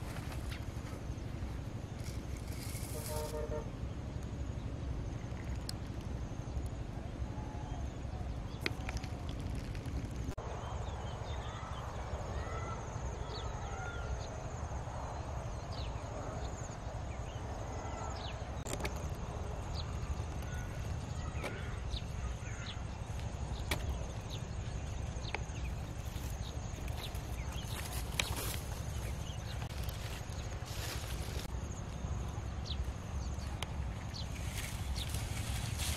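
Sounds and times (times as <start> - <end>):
small birds chirping: 0.0 - 35.9
steady low rumble: 0.0 - 35.9.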